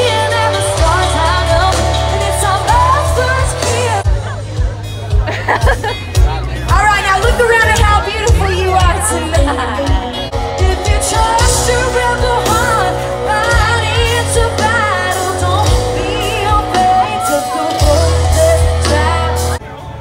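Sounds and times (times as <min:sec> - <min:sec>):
woman singing country music: 0:00.0 - 0:04.6, 0:06.6 - 0:19.6
live band with heavy bass: 0:00.0 - 0:20.0.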